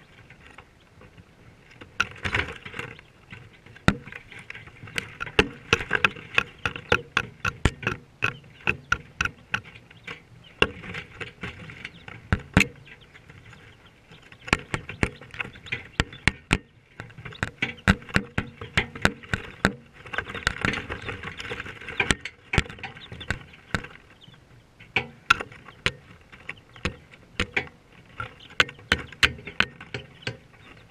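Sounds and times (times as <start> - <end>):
chicks pecking on camera: 0.0 - 30.9
chicks peeping: 0.0 - 30.9.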